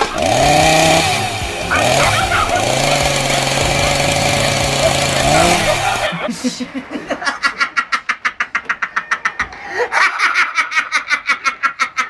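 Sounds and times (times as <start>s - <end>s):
rapid pulsing laughter: 0.0s - 12.0s.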